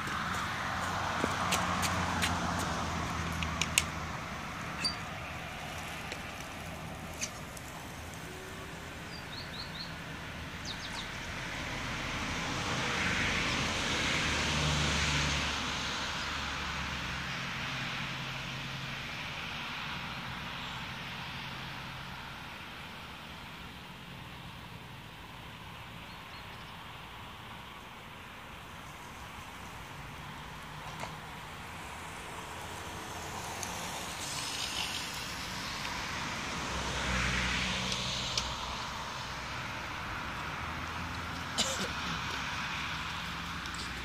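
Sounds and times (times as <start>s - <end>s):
scooter rolling on asphalt: 0.0s - 16.2s, 21.5s - 44.0s
distant traffic hum: 0.0s - 44.0s.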